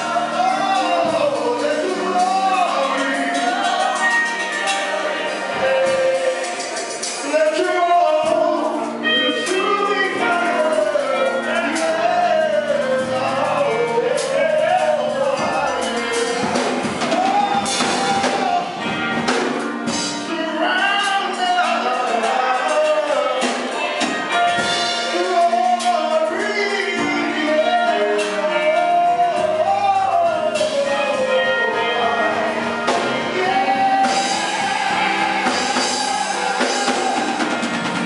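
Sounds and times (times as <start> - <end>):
man singing gospel: 0.0 - 37.8
instrumental backing: 0.0 - 38.0.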